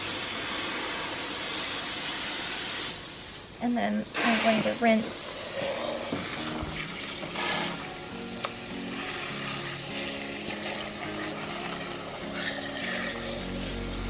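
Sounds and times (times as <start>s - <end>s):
hose water spraying and spattering: 0.0s - 14.0s.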